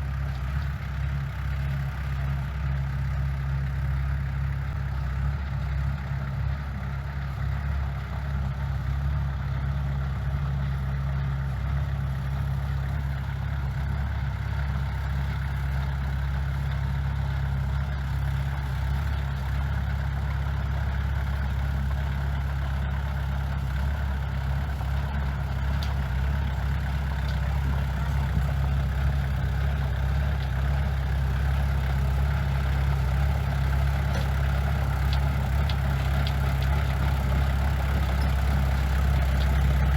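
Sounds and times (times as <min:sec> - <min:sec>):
diesel engine rumbling steadily: 0:00.0 - 0:39.9.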